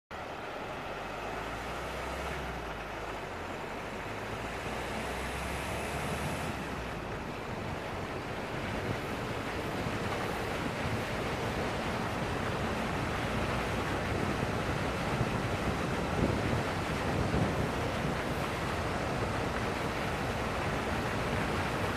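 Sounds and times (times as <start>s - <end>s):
wind buffeting microphone: 3.8s - 21.9s.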